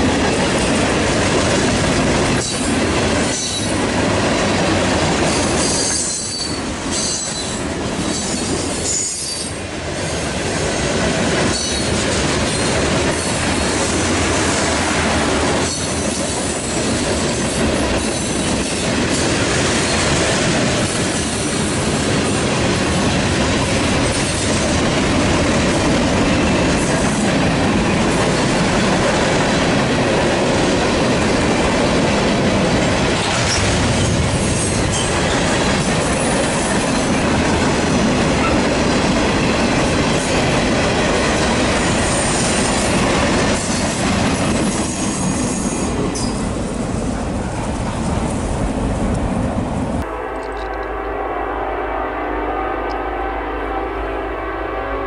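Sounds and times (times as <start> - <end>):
freight train wheels clattering on rails: 0.0 - 49.5.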